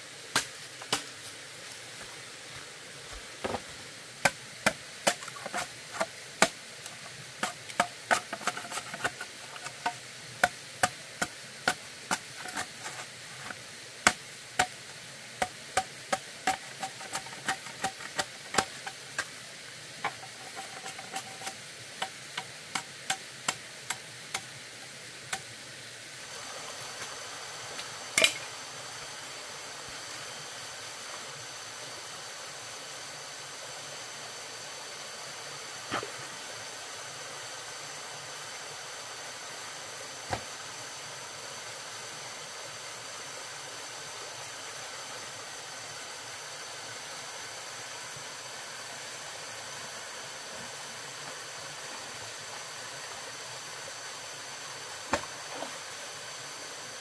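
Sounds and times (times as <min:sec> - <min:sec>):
steady hiss with high whine: 0:00.0 - 0:57.0.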